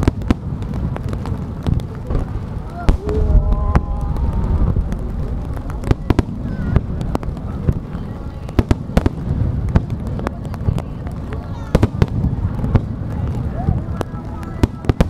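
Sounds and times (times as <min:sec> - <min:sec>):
fireworks cracking: 0:00.0 - 0:15.0
low rumble of booms: 0:00.0 - 0:15.0.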